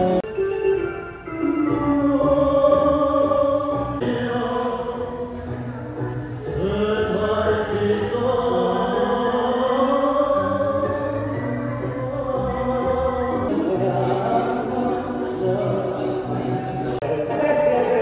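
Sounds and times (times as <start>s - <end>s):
person singing long sliding notes: 0.0s - 18.0s
tango music: 0.0s - 18.0s.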